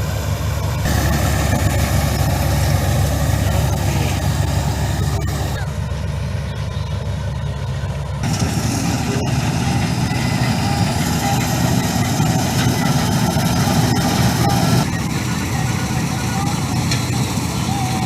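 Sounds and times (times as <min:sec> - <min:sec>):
combine harvester engine hum: 0:00.0 - 0:18.0.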